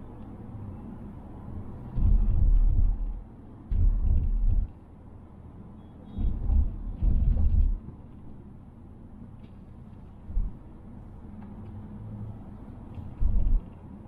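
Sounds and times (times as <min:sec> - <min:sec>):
car road rumble: 0:00.0 - 0:14.0.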